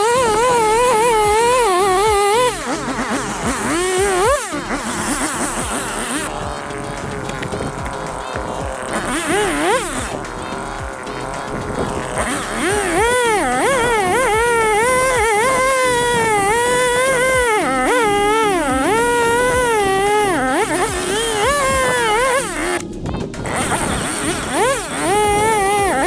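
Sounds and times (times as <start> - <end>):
chainsaw running at high revs: 0.0 - 26.0.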